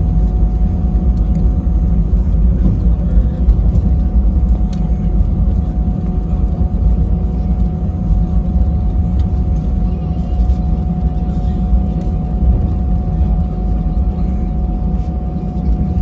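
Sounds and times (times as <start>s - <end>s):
jet engine rumble and airflow: 0.0s - 16.0s
steady whine: 0.0s - 16.0s.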